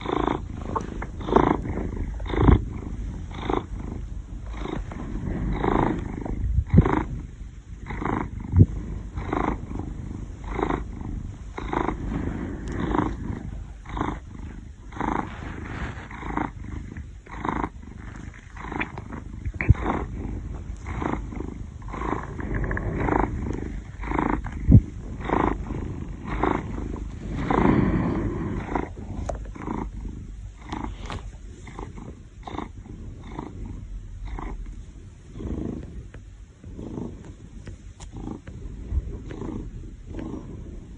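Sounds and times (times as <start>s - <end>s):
rasping breathing: 0.0s - 7.3s, 7.9s - 33.9s, 35.3s - 40.9s.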